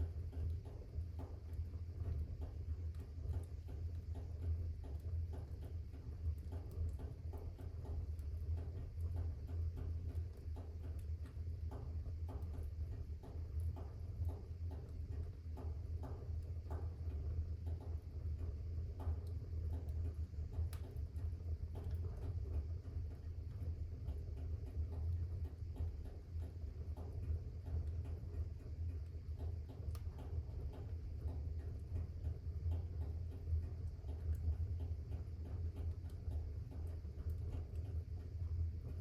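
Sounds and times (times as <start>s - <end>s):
fire crackles and pops: 0.0s - 39.0s
fire rumbling in fireplace: 0.0s - 39.0s.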